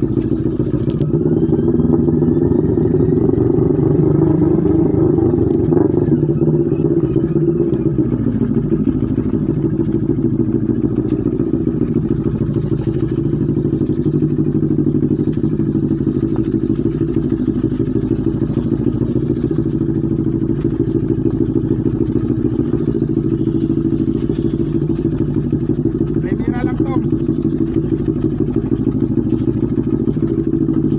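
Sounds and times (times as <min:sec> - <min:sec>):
motorcycle engine at low revs: 0:00.0 - 0:30.9.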